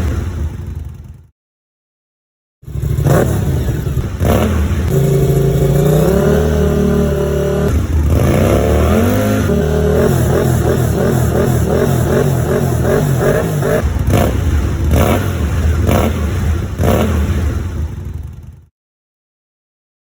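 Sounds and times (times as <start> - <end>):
motorcycle engine revving: 0.0 - 1.3, 2.6 - 18.7.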